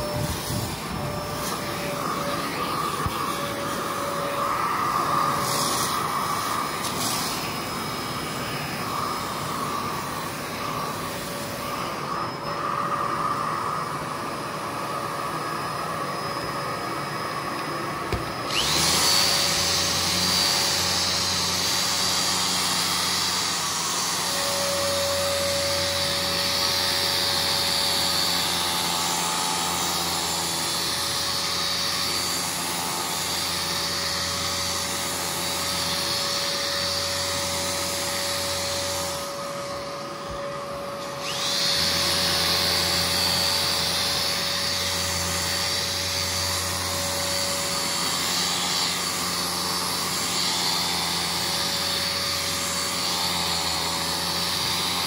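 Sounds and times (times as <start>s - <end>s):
carpet cleaning machine running: 0.0s - 55.0s
motor humming and whining: 0.0s - 55.0s.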